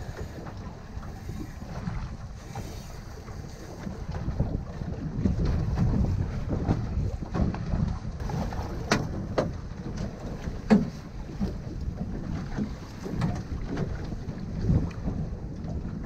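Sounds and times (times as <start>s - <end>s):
water slapping boat hull: 0.0s - 16.0s
wind buffeting microphone: 0.0s - 16.0s.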